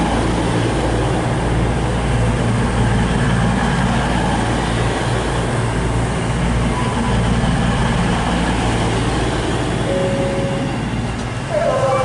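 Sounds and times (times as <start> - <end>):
diesel train engines droning: 0.0 - 12.0.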